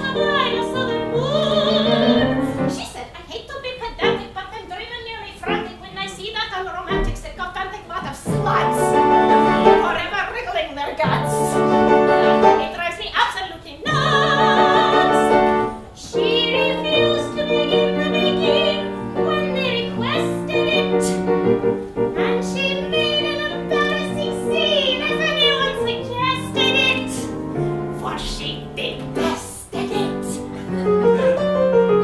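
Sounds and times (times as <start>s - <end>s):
piano accompaniment: 0.0s - 2.9s, 3.9s - 4.4s, 8.0s - 13.0s, 13.8s - 32.0s
woman singing with vibrato: 0.0s - 21.5s, 22.1s - 32.0s.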